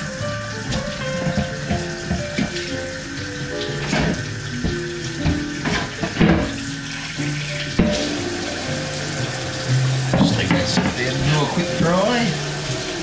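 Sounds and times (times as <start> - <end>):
items clattering in sink: 0.0 - 8.5, 9.8 - 12.3
tap running into sink: 0.0 - 13.0.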